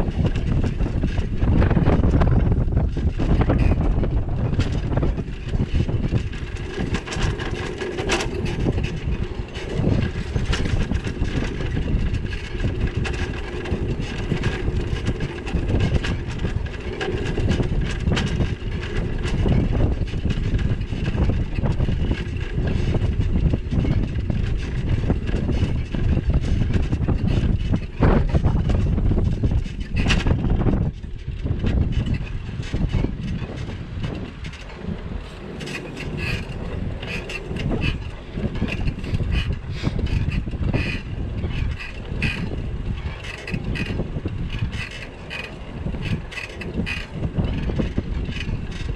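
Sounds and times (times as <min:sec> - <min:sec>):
bike clicks and rattles: 0:00.0 - 0:48.9
wind buffeting microphone: 0:00.0 - 0:48.9.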